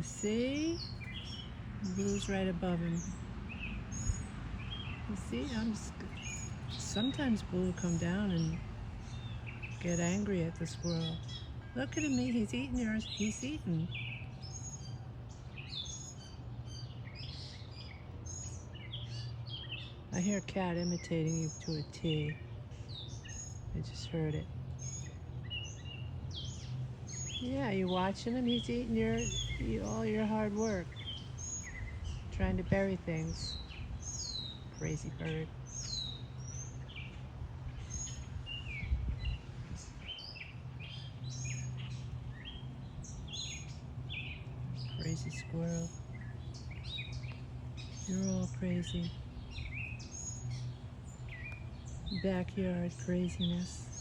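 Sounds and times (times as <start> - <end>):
songbird singing: 0.0 - 54.0
steady low hum: 0.0 - 54.0.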